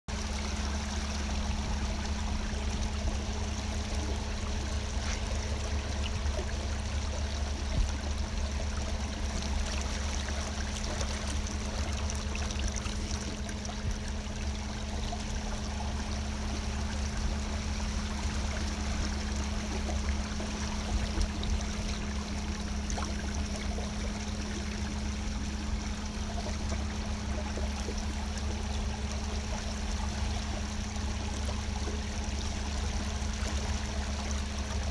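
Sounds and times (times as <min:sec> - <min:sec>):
steady low hum: 0:00.1 - 0:34.9
water splashing against boat hull: 0:00.2 - 0:34.9.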